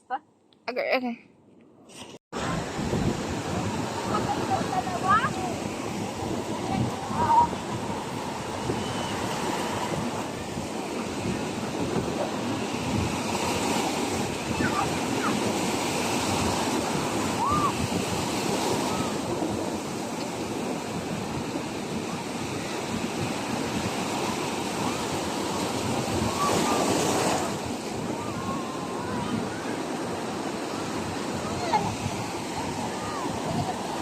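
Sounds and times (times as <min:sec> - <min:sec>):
ocean waves washing ashore: 0:02.3 - 0:34.0.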